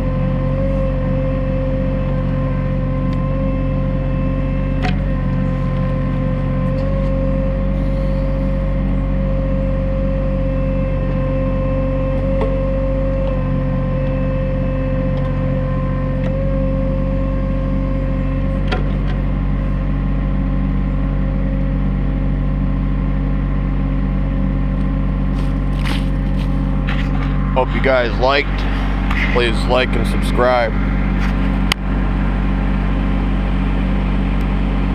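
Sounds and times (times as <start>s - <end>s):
steady high whine: 0.0s - 34.9s
tractor diesel engine running: 0.0s - 34.9s.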